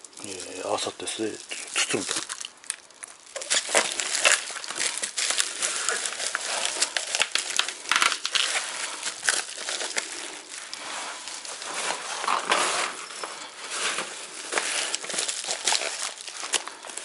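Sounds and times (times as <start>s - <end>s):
bubble-wrap insulation crinkling: 0.0s - 17.0s.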